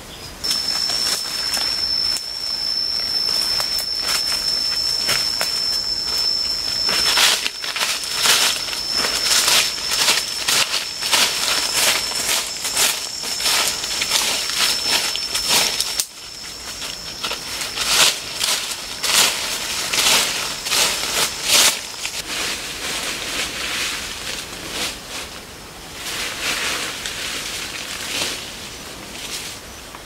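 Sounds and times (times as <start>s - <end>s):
dry leaves rustling and crunching: 0.4s - 29.6s.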